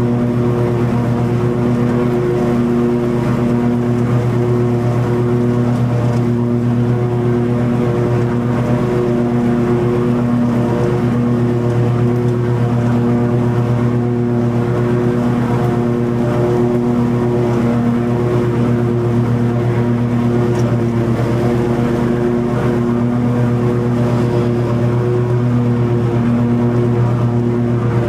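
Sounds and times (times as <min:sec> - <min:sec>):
mower engine running: 0:00.0 - 0:28.0.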